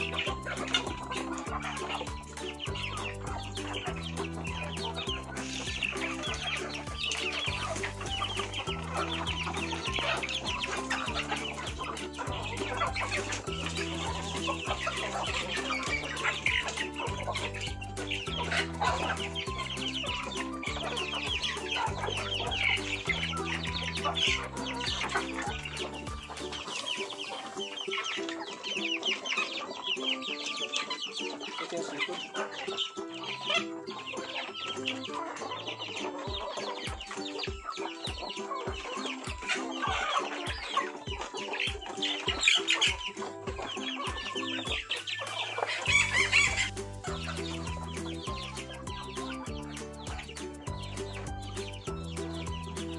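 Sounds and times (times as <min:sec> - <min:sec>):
background music: 0:00.0 - 0:52.9
chickens clucking: 0:00.0 - 0:52.9.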